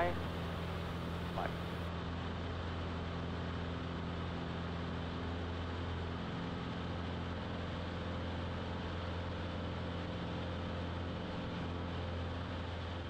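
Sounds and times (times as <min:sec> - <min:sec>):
light airplane engine droning: 0:00.0 - 0:13.0.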